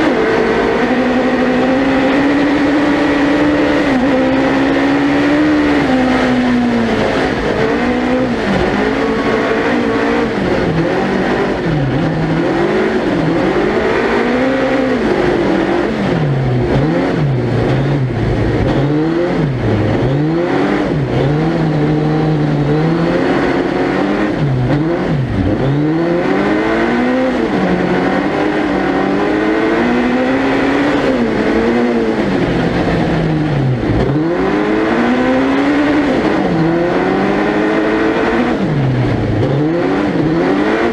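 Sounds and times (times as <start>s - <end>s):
racing engine revving: 0.0s - 40.9s.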